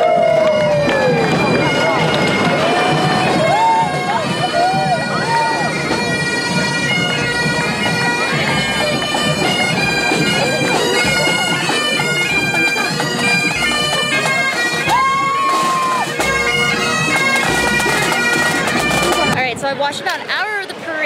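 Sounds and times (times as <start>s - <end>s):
bagpipes playing over drones: 0.0s - 19.4s.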